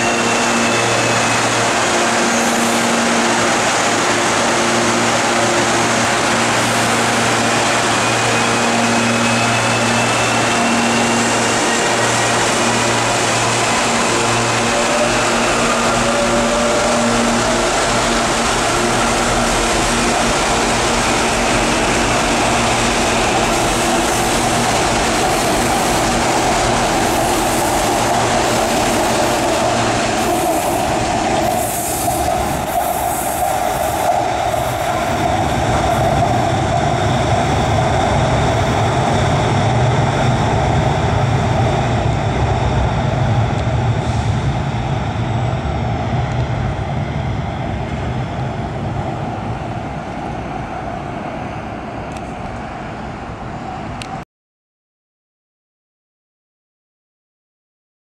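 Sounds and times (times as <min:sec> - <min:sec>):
electric train rail rumble: 0:00.0 - 0:54.2.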